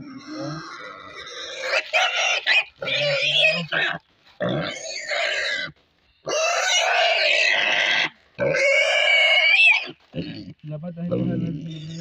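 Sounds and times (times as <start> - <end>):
pig squealing in distress: 0.0 - 12.0.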